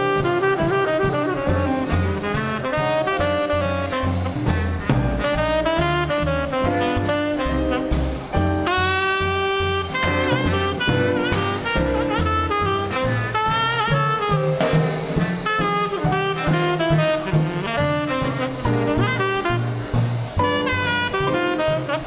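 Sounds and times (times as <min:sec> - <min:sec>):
drums: 0:00.0 - 0:22.0
saxophone solo: 0:00.0 - 0:22.0
walking bass line: 0:00.0 - 0:22.0.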